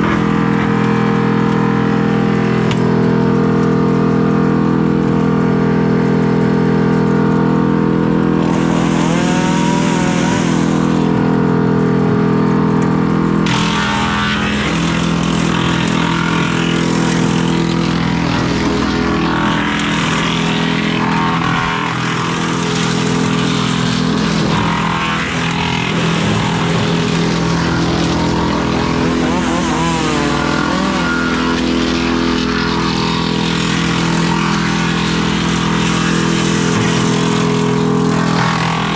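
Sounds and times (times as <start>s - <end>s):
tractor engine running: 0.0s - 38.9s
wood chipper chipping branches: 0.0s - 38.9s.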